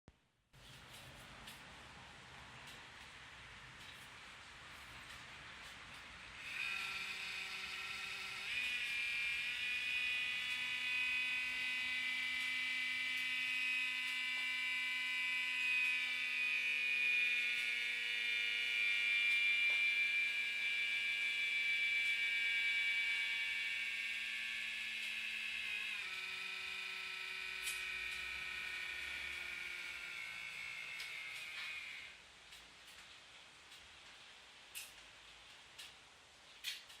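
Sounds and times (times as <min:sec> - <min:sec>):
laptop fan whining: 0:00.6 - 0:33.0.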